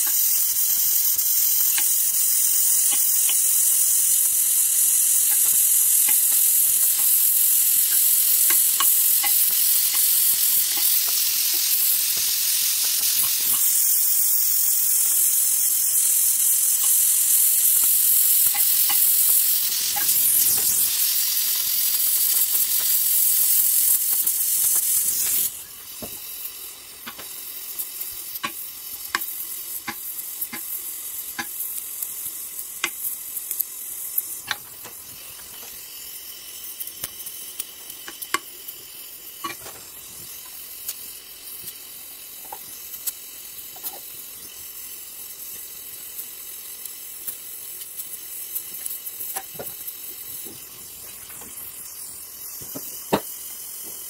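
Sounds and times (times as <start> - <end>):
molten metal crackling and popping: 0.0 - 54.0
welding torch flame hissing: 0.0 - 54.0.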